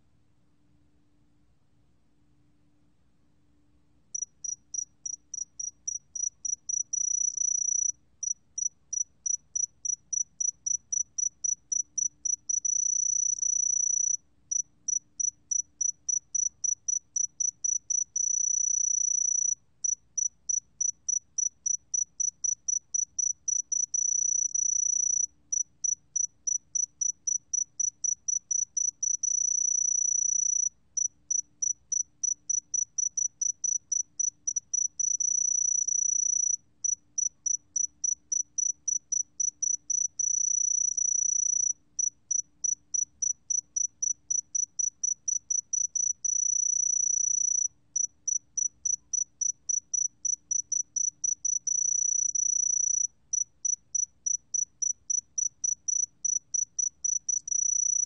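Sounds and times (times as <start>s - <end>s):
cricket chirping and trilling: 4.2s - 58.0s.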